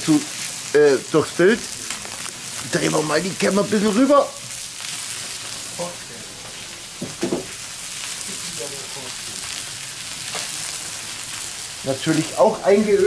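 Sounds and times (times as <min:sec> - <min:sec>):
food sizzling on a fire plate: 0:00.0 - 0:13.0.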